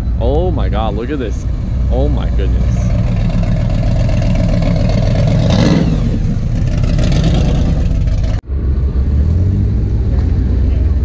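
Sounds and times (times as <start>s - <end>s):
car engine rumbling past: 0.0s - 11.0s
engine rev: 0.8s - 11.0s.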